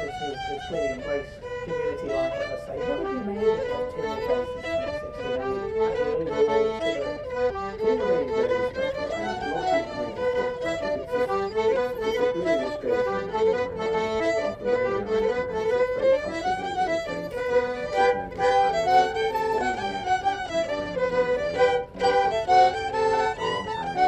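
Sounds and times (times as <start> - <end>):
instrumental folk dance tune: 0.0 - 24.0.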